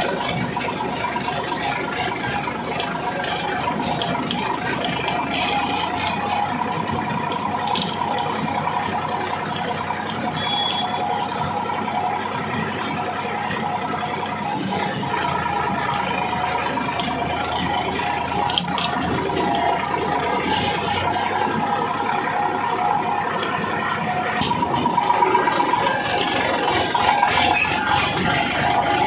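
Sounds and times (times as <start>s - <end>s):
tractor diesel engine running: 0.0s - 29.0s
trolley rattling: 0.0s - 29.0s.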